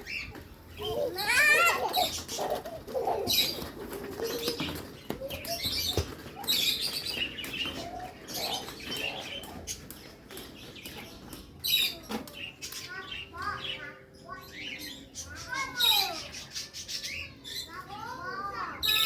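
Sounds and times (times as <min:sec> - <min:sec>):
parrot chicks chirping: 0:00.0 - 0:19.0.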